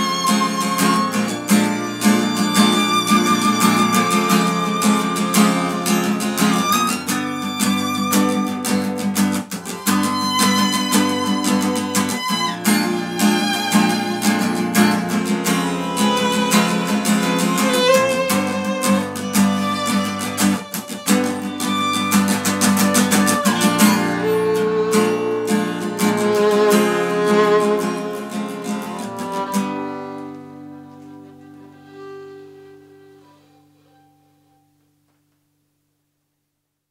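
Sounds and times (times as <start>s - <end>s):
violin playing melody: 0.0s - 34.2s
acoustic guitar strumming: 0.0s - 34.9s.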